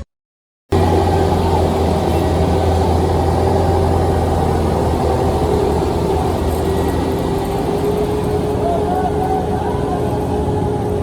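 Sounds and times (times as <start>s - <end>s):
heavy machine engine running: 0.7s - 11.0s
steady engine whine: 0.7s - 11.0s.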